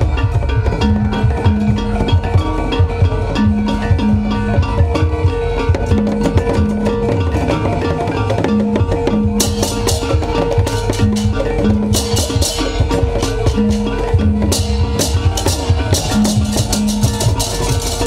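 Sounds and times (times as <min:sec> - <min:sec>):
drum beaten with sticks: 0:00.0 - 0:18.0
metallic ringing tone: 0:00.0 - 0:18.0.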